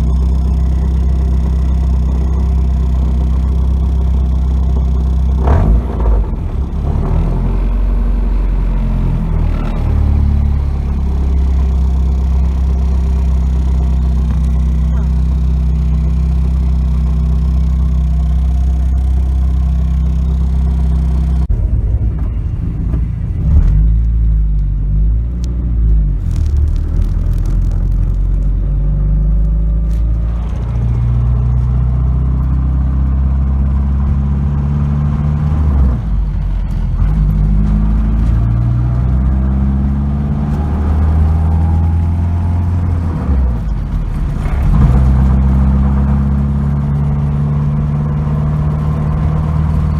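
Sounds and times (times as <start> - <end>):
rattling and scraping: 0.0 - 24.7, 26.1 - 32.7, 40.4 - 49.9
car engine running: 0.0 - 49.9.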